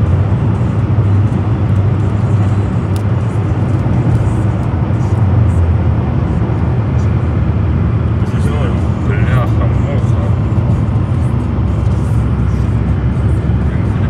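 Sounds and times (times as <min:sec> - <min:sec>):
vehicle road noise rumble: 0:00.0 - 0:14.0.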